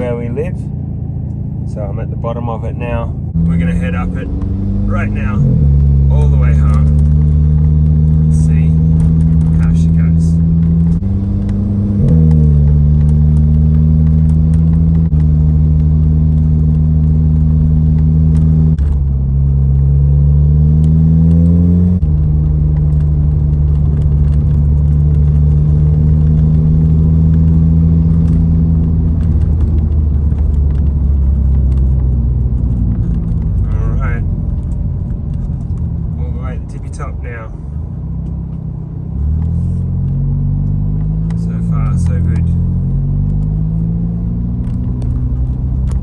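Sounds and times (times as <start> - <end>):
car engine pulling under load: 0.3 - 46.0.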